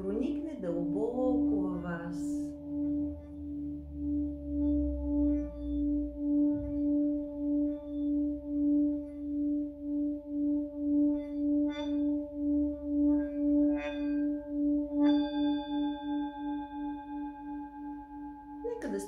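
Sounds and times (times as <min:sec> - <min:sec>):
singing bowl pulsing hum: 0:00.0 - 0:19.0.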